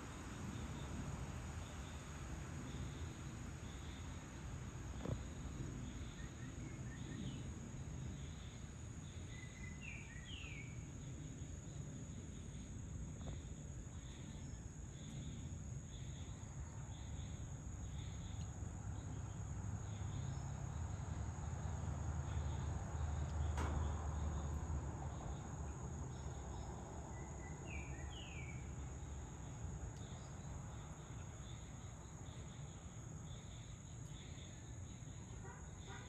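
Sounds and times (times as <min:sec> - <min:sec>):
insects trilling: 0:00.2 - 0:36.0.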